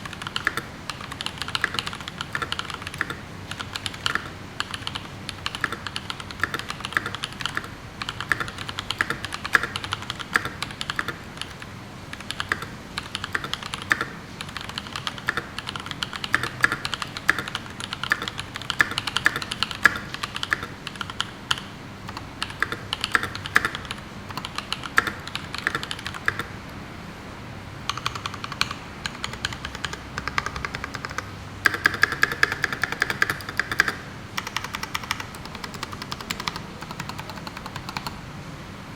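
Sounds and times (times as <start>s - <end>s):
fast mechanical keyboard typing: 0.0s - 26.6s, 27.8s - 38.2s.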